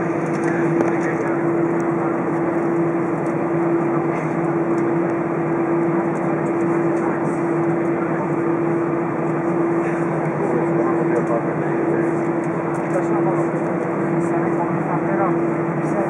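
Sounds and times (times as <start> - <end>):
jet airliner cabin noise: 0.0 - 16.0.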